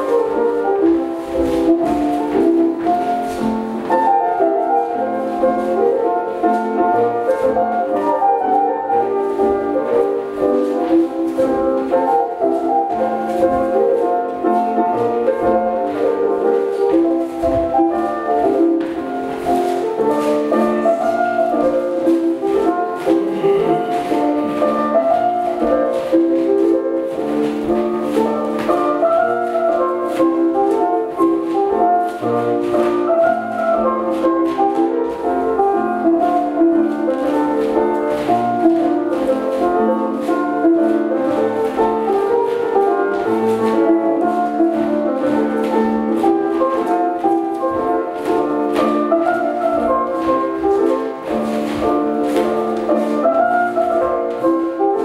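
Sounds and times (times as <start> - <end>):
country dance band music: 0.0 - 55.0.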